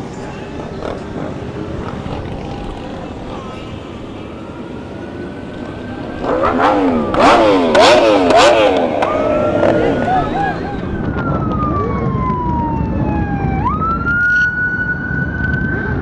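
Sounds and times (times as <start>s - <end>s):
vehicles rumbling past: 0.0s - 13.8s
emergency siren yelping: 0.0s - 16.0s.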